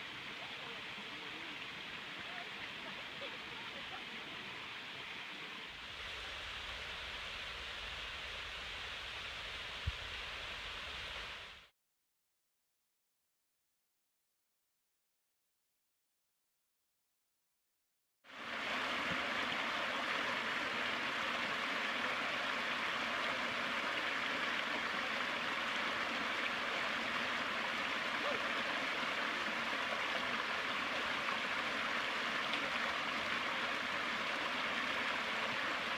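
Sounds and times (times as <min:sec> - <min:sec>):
stream running over rocks: 0:00.0 - 0:11.7, 0:18.3 - 0:35.9.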